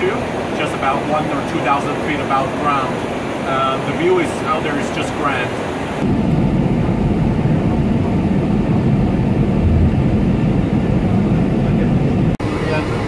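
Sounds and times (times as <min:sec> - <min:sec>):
jet cabin engine rumble: 0:00.0 - 0:13.0.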